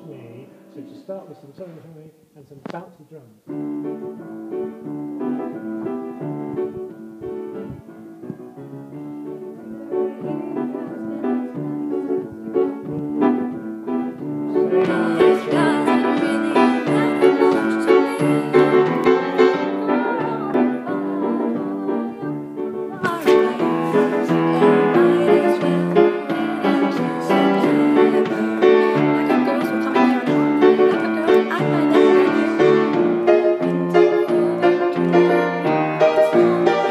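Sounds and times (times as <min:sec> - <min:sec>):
upright piano playing: 0:00.0 - 0:01.8, 0:03.4 - 0:36.9.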